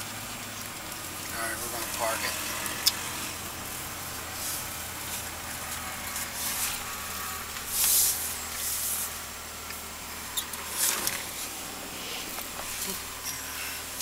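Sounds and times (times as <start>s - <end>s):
car engine humming: 0.0s - 14.0s
loud hissing rush: 0.0s - 14.0s
road noise: 0.0s - 14.0s.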